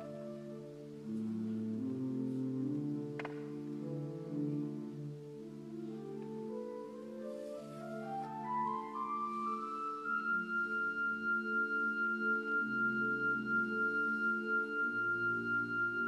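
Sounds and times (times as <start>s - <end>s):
instrumental music: 0.0s - 16.0s.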